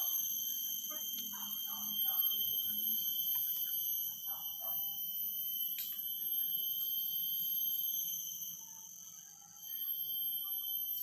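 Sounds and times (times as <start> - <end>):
insects whining: 0.0 - 11.0.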